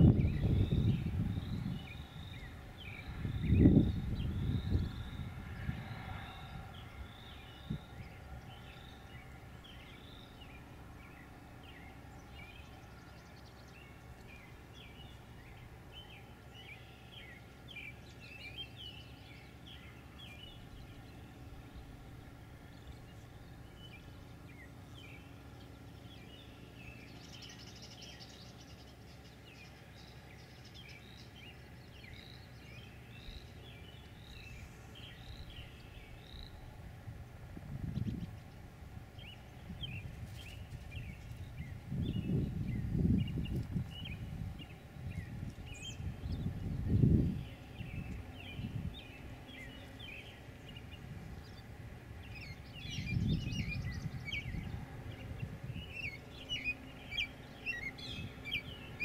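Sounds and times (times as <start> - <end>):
birds chirping: 0.0 - 59.0
low background rumble: 0.0 - 59.0.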